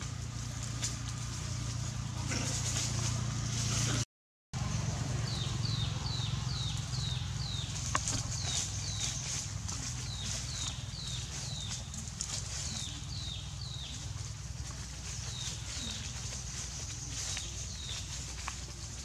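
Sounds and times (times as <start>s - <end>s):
low rumble of outdoor ambience: 0.0s - 4.0s, 4.6s - 19.0s.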